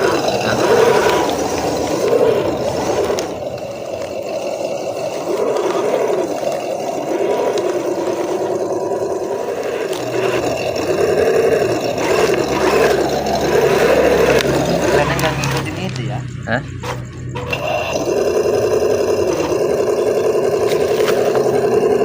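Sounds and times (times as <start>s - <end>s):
electric motor and gearbox whining: 0.0s - 22.0s.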